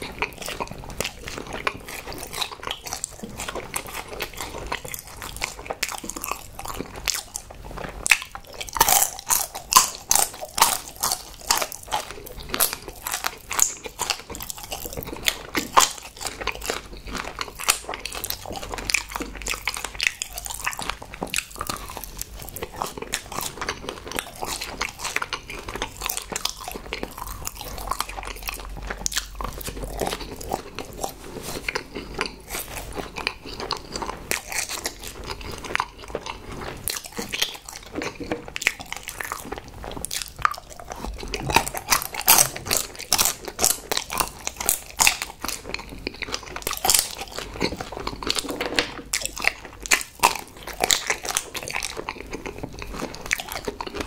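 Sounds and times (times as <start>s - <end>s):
chewing and biting: 0.0s - 54.0s.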